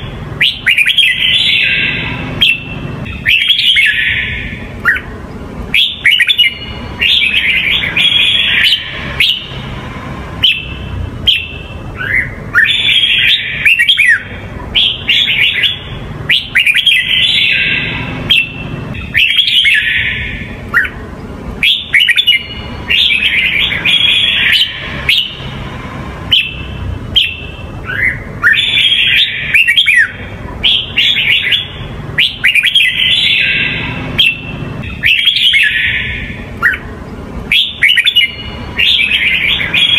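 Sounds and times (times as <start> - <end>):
bird singing whistled phrases: 0.0 - 5.1, 5.7 - 9.6, 10.4 - 21.0, 21.6 - 25.5, 26.3 - 36.8, 37.5 - 39.9.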